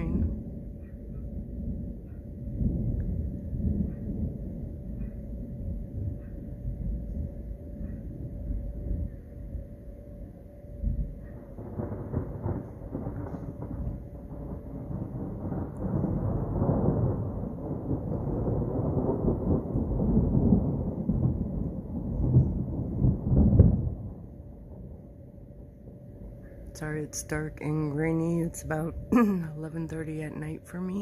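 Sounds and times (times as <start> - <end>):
thunder rumbling: 0.0 - 31.0.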